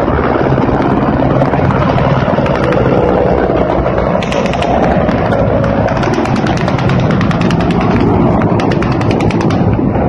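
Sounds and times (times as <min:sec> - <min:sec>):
helicopter rumble: 0:00.0 - 0:10.0
rapid sharp cracks: 0:00.7 - 0:03.4, 0:04.2 - 0:10.0.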